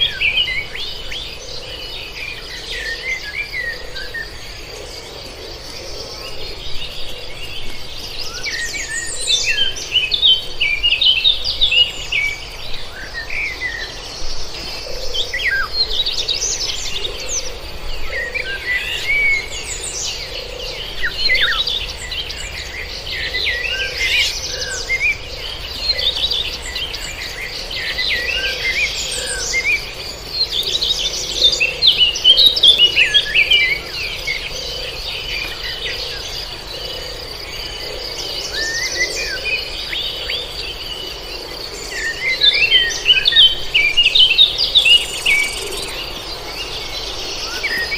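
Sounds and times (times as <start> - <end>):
birds singing and chirping: 0.0 - 47.9.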